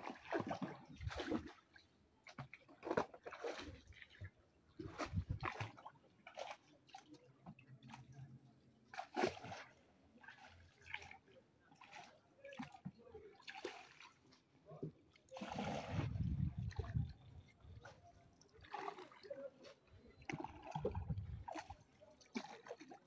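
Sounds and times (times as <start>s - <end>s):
canoe paddle splashing: 0.0s - 8.2s, 8.8s - 23.0s
water sloshing: 0.0s - 8.3s, 8.9s - 23.0s.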